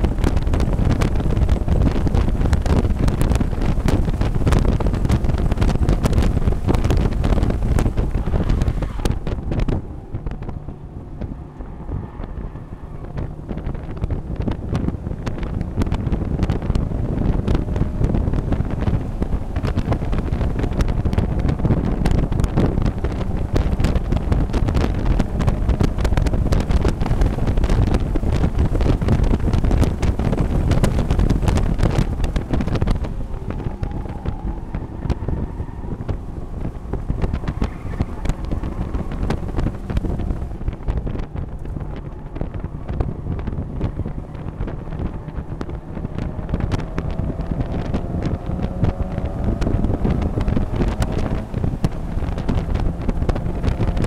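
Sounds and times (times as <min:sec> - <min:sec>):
race car engine running hard: 0:00.0 - 0:54.0
wind buffeting on microphone: 0:00.0 - 0:54.0.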